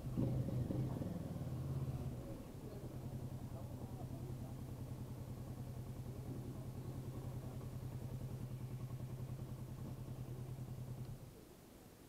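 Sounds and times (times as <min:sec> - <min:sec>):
motorcycle engine running: 0:00.0 - 0:11.3.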